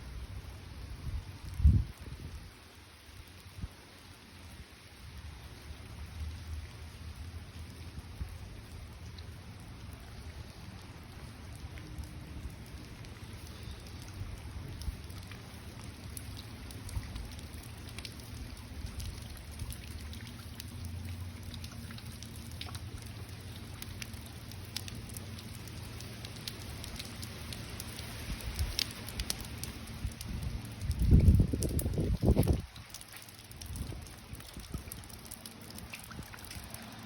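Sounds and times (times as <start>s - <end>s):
rain drops ticking: 0.0s - 37.0s.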